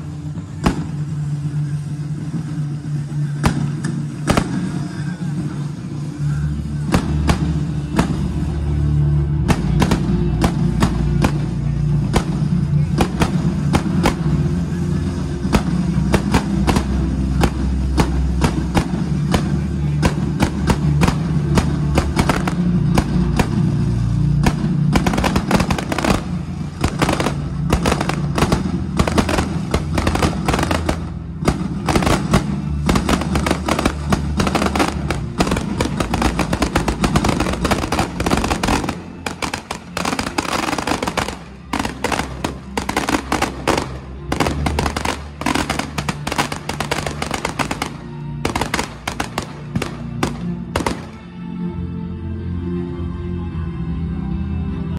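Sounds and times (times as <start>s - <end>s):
fireworks bangs and crackles: 0.0s - 51.4s
music playing: 0.0s - 54.9s.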